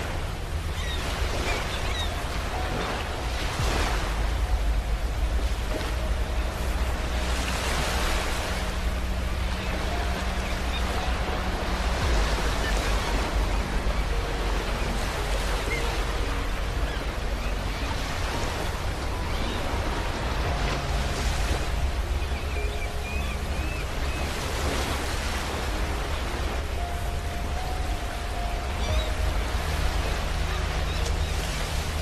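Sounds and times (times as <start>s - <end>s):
sea waves breaking on beach: 0.0s - 32.0s
steady low rumble: 2.1s - 32.0s.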